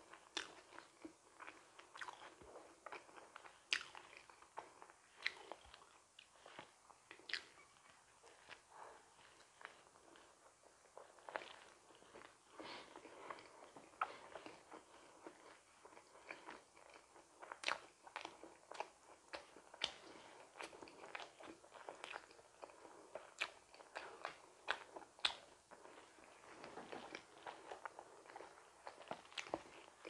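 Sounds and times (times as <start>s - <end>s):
person chewing and biting: 0.1s - 8.6s, 9.2s - 30.0s.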